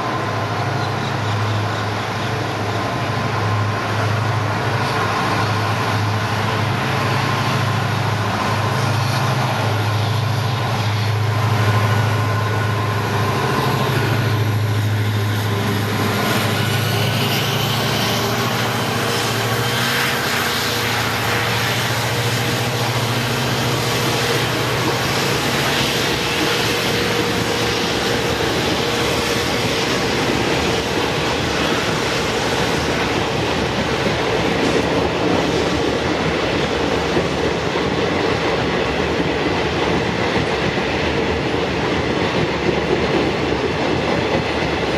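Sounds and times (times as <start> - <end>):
diesel locomotive engine droning: 0.0 - 44.9
passenger coaches rumbling past: 0.0 - 44.9.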